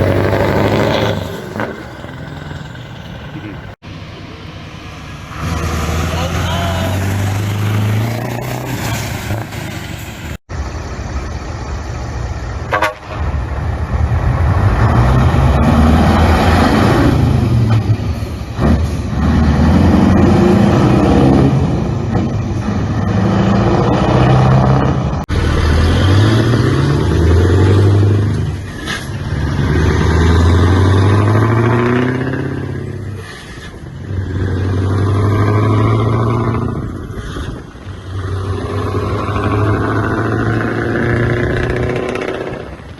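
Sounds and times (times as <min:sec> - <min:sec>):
loud truck engine revving: 0:00.0 - 0:42.9.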